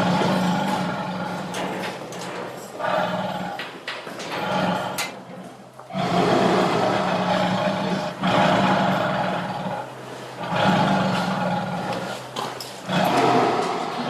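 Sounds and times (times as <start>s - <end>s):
tiger growling and roaring: 0.0s - 14.0s.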